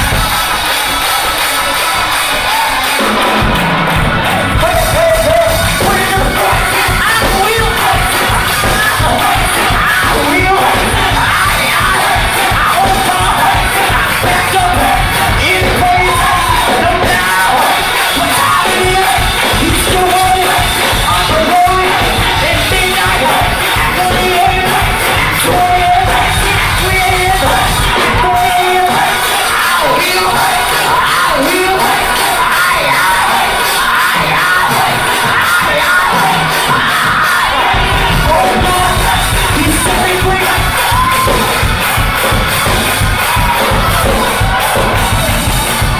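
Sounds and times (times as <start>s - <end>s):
band accompaniment: 0.0s - 45.9s
choir singing: 0.0s - 45.9s.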